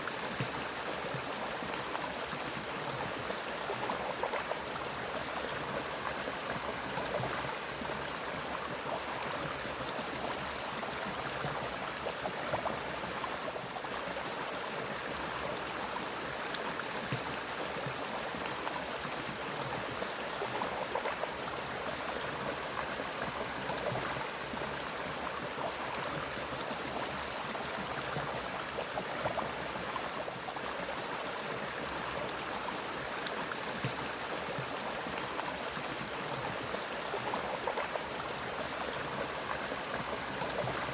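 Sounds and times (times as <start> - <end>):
mountain stream flowing: 0.0 - 40.9.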